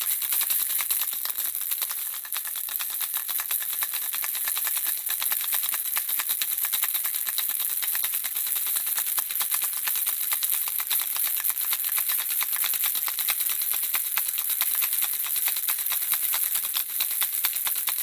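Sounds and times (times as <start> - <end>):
baby rattle shaking: 0.0 - 18.0.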